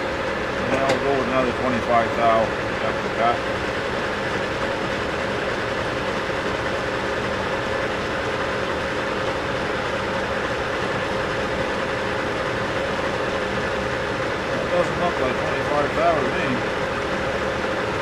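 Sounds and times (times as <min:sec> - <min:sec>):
lathe humming and whining: 0:00.0 - 0:18.0.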